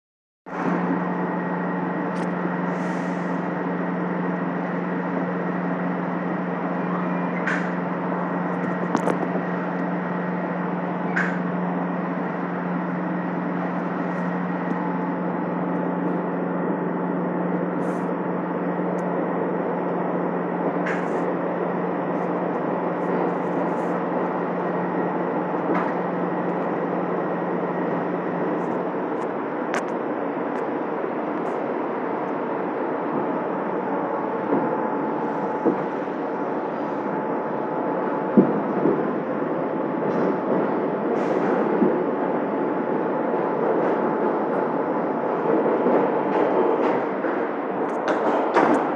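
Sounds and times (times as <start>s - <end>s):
low hum: 0.5s - 48.9s
subway car rumble: 0.5s - 48.9s.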